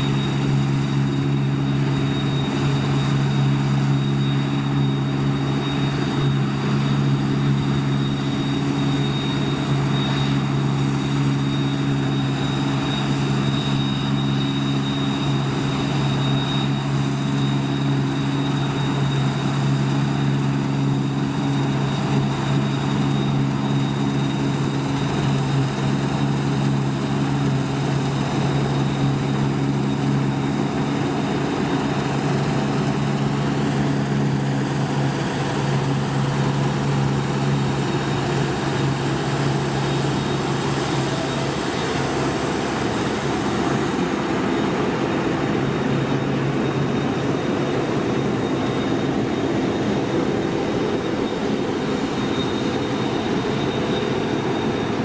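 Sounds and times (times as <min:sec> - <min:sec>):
combine harvester running: 0:00.0 - 0:55.0
faint high whine: 0:00.0 - 0:55.0
tractor running: 0:00.0 - 0:55.0.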